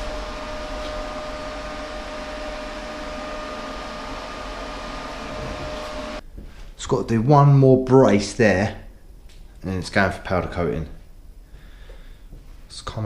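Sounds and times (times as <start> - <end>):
faint high whine: 0.0 - 13.0
mechanical hum and hiss: 0.0 - 13.0.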